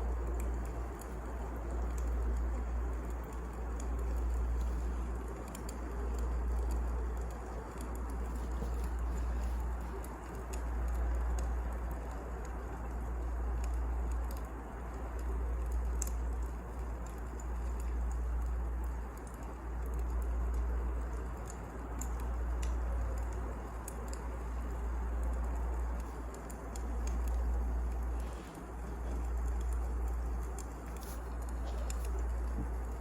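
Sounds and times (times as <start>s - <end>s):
faint fire crackles: 0.0s - 33.0s
low rumble of fire: 0.0s - 33.0s.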